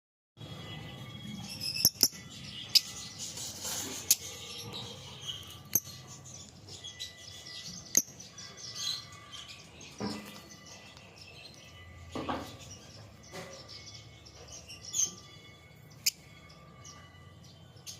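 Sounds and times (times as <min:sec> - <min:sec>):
lovebirds twittering: 0:00.5 - 0:17.9.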